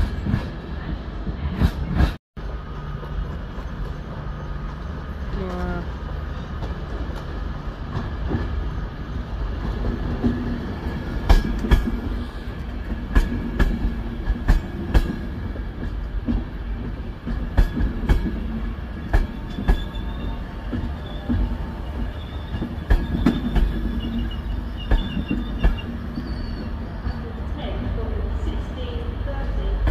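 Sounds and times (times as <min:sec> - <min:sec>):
train coaches rumbling past: 0:00.0 - 0:29.9.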